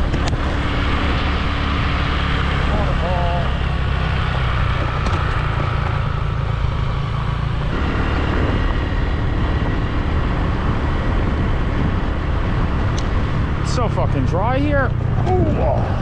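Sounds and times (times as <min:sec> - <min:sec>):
motorbike engine: 0:00.0 - 0:16.0
wind rumble on microphone: 0:00.0 - 0:16.0.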